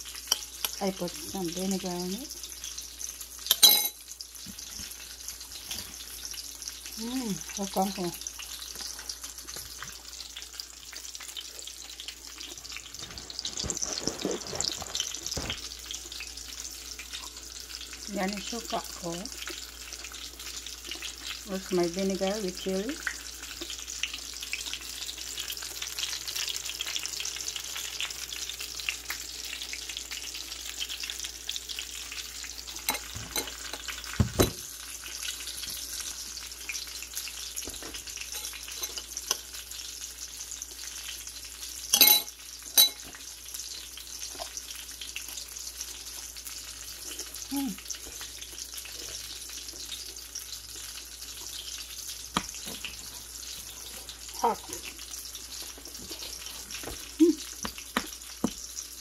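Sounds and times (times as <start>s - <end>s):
hot oil sizzling: 0.0s - 59.0s.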